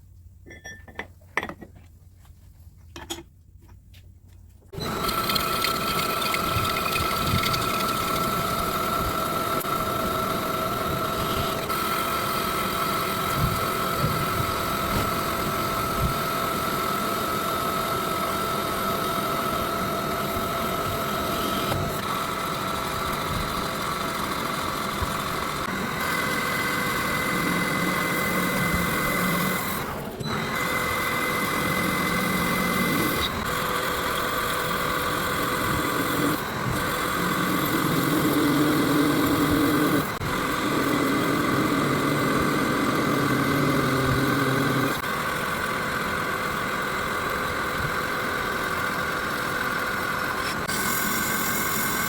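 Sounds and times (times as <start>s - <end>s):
power tool whining: 4.8s - 52.0s.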